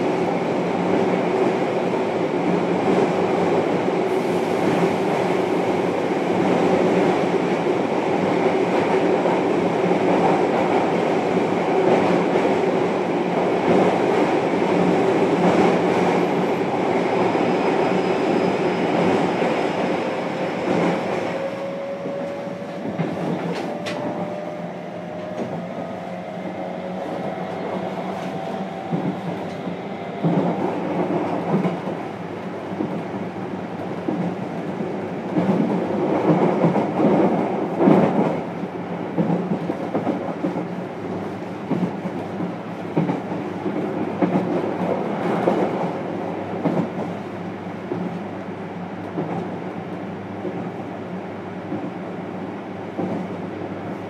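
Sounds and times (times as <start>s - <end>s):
rails clickety-clack: 0.0s - 54.0s.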